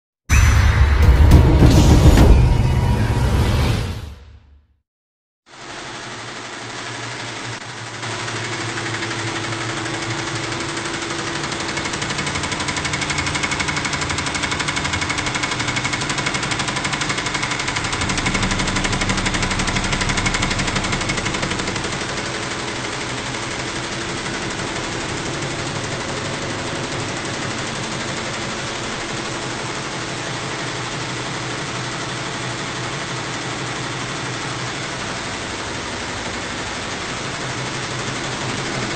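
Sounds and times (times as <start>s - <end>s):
embroidery machine stitching clatter: 5.6s - 38.9s.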